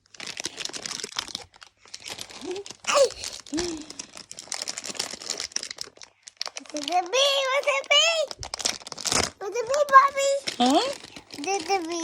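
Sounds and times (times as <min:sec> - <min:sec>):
plastic packaging crinkling and tearing: 0:00.0 - 0:12.0.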